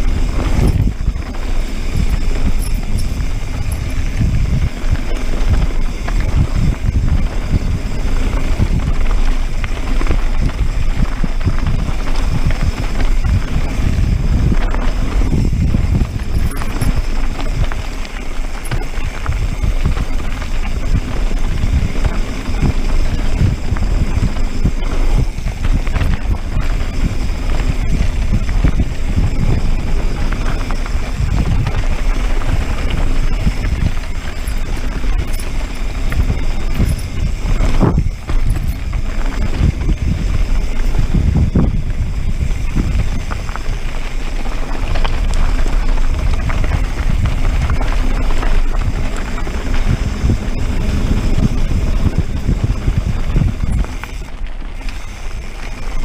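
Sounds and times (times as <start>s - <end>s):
bike rattling over bumps: 0.0s - 56.0s
tyres crunching over loose stones: 0.0s - 56.0s
wind rushing over microphone: 0.0s - 56.0s.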